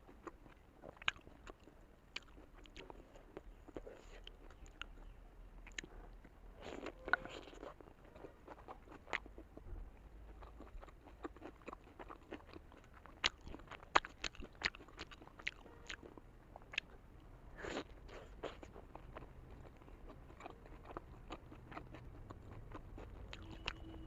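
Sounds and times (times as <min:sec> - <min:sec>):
chewing with wet mouth clicks: 0:00.0 - 0:17.0, 0:17.6 - 0:24.0.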